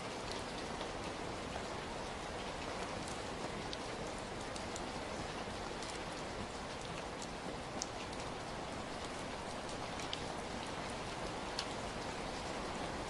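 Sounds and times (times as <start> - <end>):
steady rain hissing: 0.0 - 13.0.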